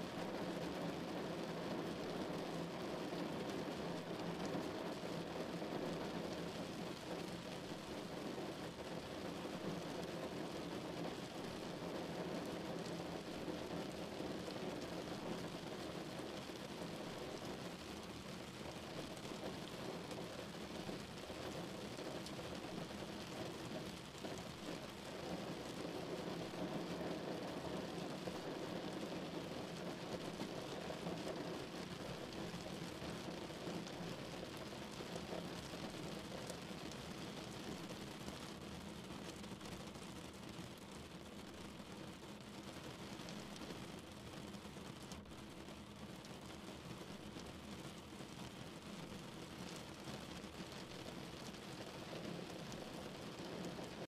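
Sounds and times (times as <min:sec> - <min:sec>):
rain on car windshield and roof: 0:00.0 - 0:54.0.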